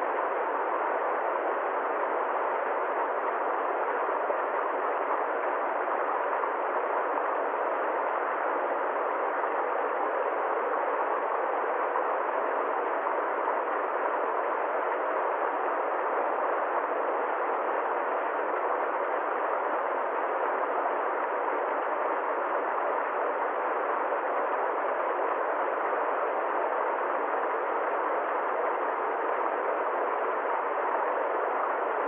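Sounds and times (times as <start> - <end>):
steady rushing noise: 0.0 - 32.0.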